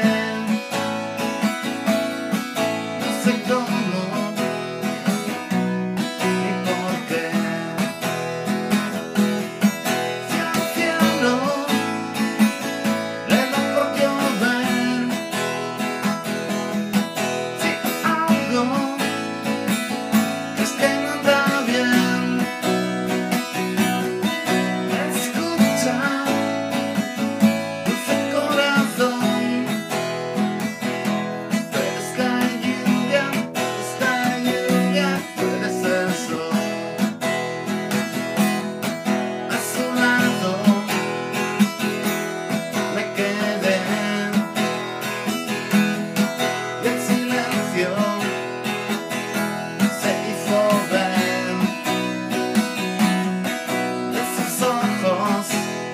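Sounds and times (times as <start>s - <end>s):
acoustic guitar strumming and plucking: 0.0s - 55.9s.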